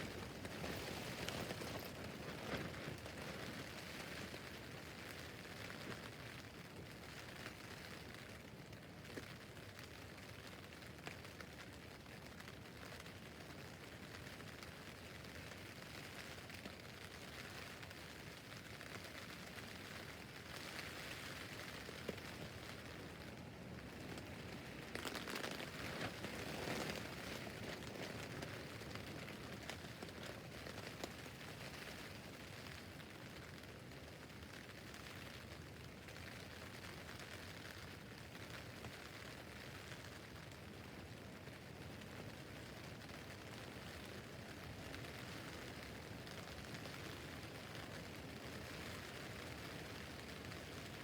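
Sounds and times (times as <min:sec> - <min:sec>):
rain pattering on tent roof: 0:00.0 - 0:51.0.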